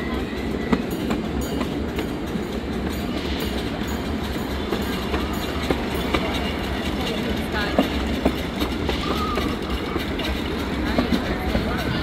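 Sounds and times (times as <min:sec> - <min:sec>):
miniature train wheels rumbling: 0:00.0 - 0:12.0
wheels clicking over rail joints: 0:00.0 - 0:12.0.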